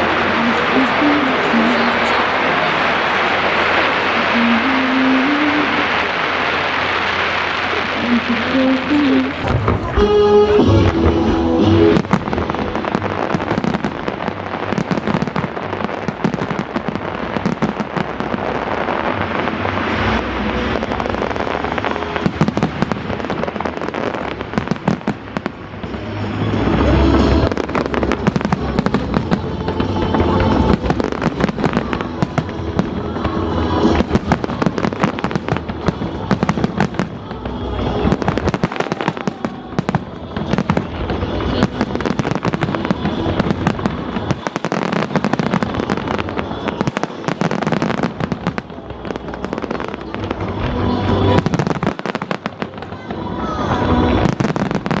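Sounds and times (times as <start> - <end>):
fireworks bangs: 0.0 - 55.0
fireworks crackling and popping: 0.0 - 55.0
music: 0.0 - 55.0.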